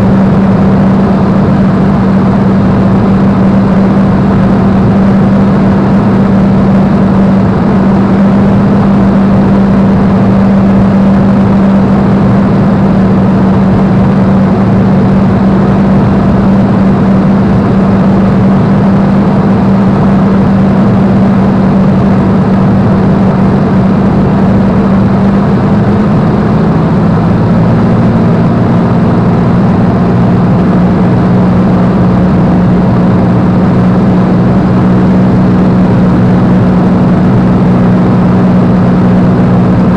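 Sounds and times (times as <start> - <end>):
aircraft piston engine running: 0.0 - 39.9
rushing airflow: 0.0 - 39.9.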